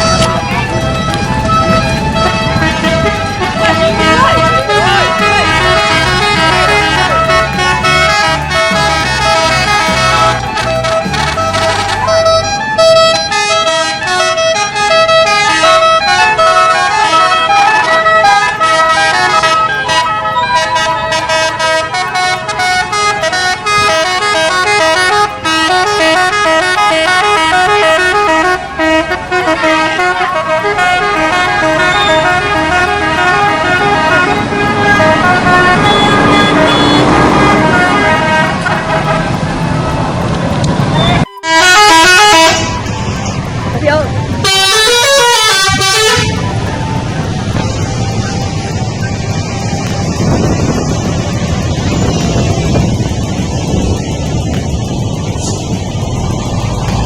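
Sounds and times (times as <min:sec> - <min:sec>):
music with stepping bass line: 0:00.0 - 0:13.3, 0:18.0 - 0:57.0
multi-tone musical bus horns: 0:00.0 - 0:57.0.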